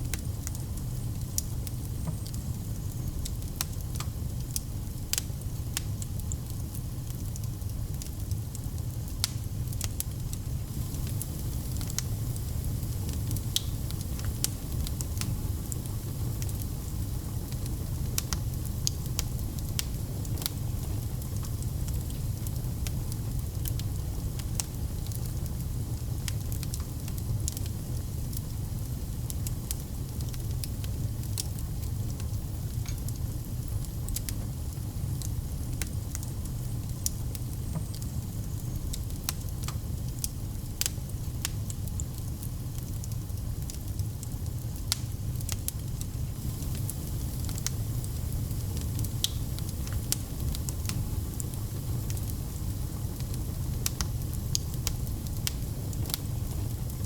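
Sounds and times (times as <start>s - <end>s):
fire crackling and popping: 0.0s - 57.0s
flames rumbling: 0.0s - 57.0s.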